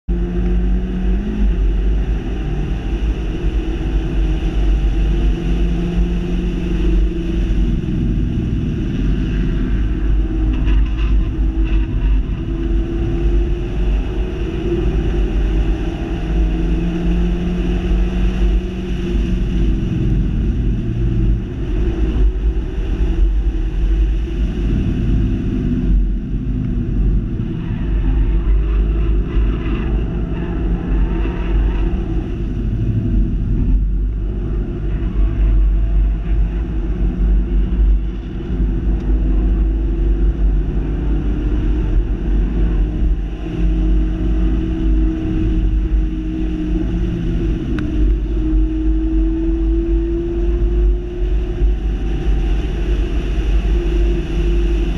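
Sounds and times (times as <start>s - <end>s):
wind and road rumble: 0.0s - 54.9s.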